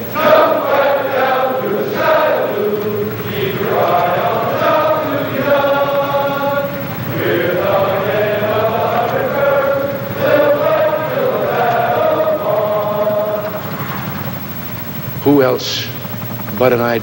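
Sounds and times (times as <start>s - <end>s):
choir singing sustained notes: 0.0s - 15.2s.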